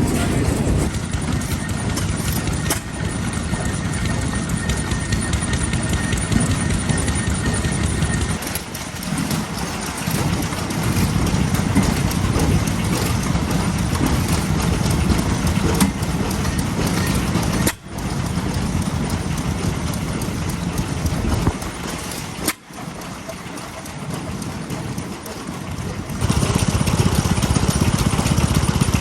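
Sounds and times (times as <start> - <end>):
stationary engines put-putting: 0.0 - 26.2.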